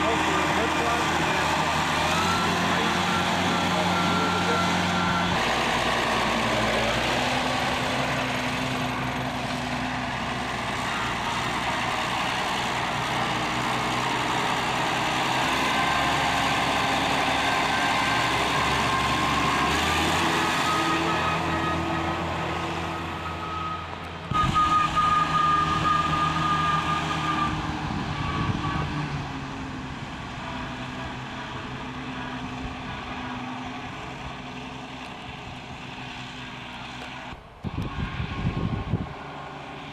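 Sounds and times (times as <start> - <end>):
tractor engine revving: 0.0 - 39.9.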